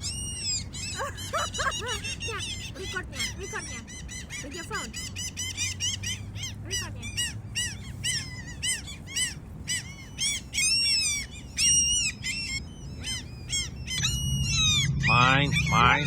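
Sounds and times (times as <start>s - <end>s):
gulls calling: 0.0s - 16.0s.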